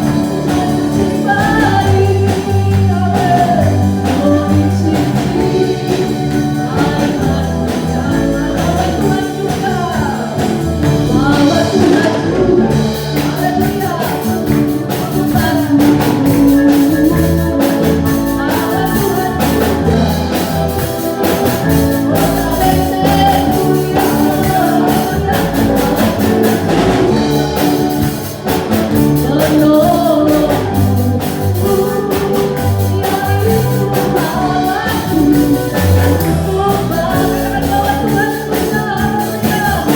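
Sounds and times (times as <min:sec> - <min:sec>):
band accompaniment with steady beat: 0:00.0 - 0:39.9
worship song singing: 0:00.0 - 0:39.9.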